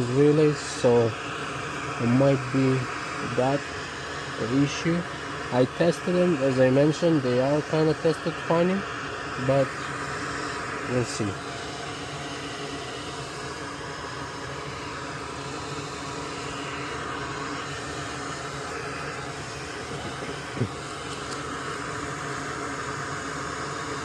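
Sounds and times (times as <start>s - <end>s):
blowing air hiss: 0.0s - 24.0s.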